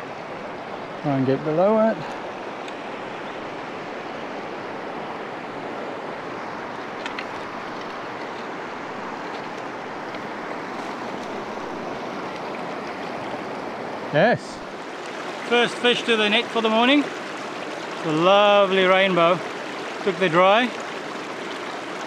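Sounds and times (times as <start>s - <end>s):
river water rushing over stones: 0.0s - 22.0s.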